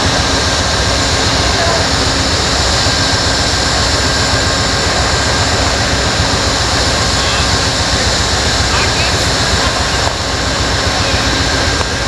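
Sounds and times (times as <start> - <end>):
train passing with loud roar: 0.0 - 12.0.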